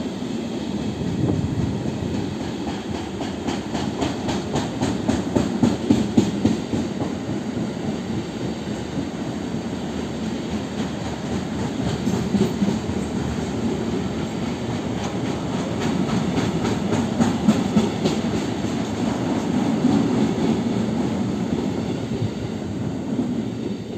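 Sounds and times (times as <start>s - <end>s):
steel wheels rumbling on rail: 0.0s - 23.9s.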